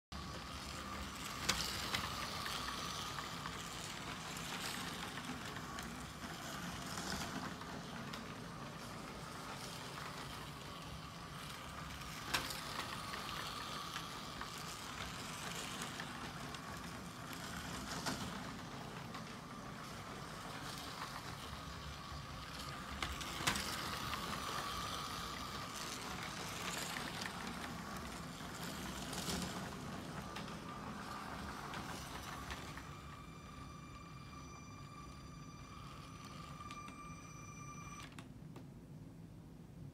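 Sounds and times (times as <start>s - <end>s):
wheels rattling on plastic track: 0.2s - 33.8s
toy train motor whirring: 0.2s - 38.1s.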